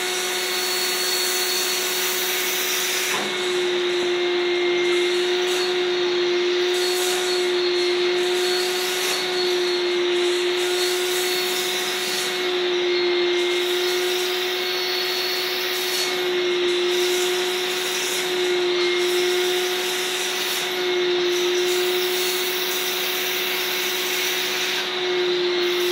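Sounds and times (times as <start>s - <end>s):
vacuum cleaner motor whine: 0.0s - 25.9s.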